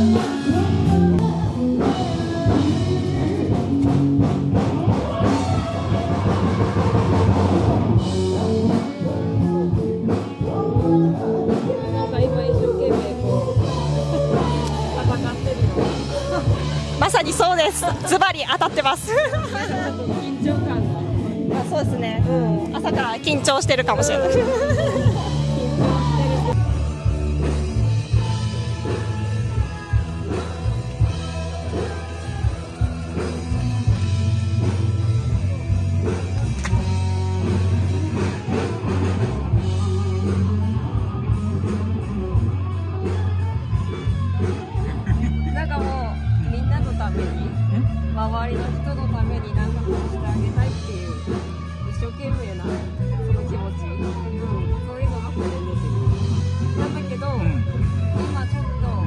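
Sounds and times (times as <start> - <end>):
rock music with guitar: 0.0 - 59.0.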